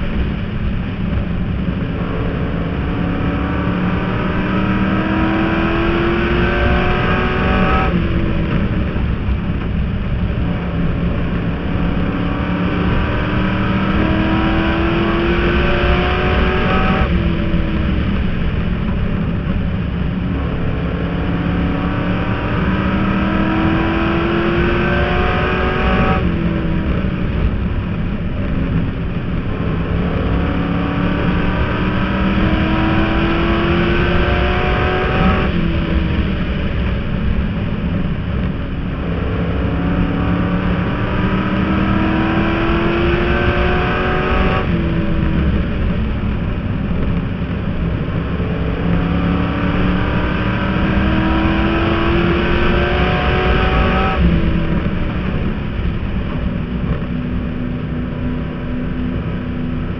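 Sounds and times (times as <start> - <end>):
race car engine revving: 0.0 - 59.9
road noise: 0.0 - 59.9.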